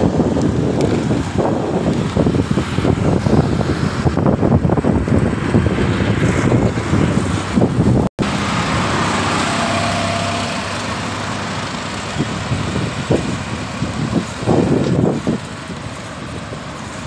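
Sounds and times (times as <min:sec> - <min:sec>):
wind buffeting microphone: 0:00.0 - 0:09.7, 0:10.4 - 0:17.0
road traffic noise: 0:00.0 - 0:17.0.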